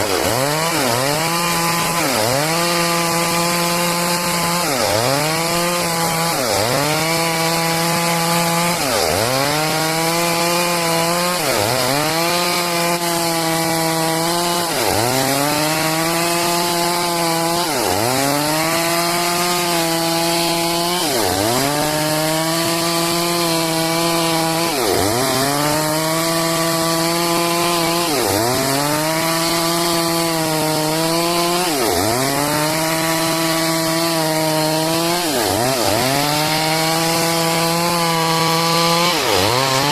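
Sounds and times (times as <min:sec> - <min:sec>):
chainsaw sawing log: 0:00.0 - 0:39.9.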